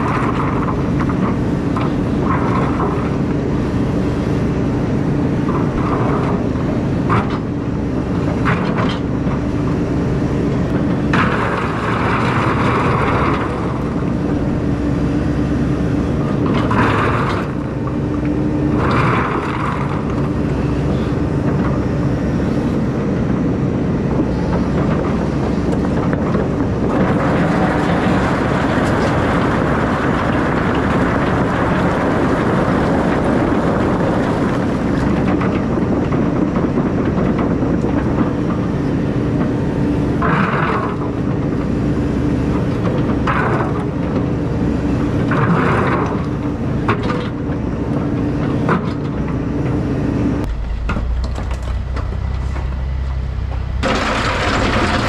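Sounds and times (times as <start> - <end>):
excavator diesel engine humming: 0.0 - 55.0.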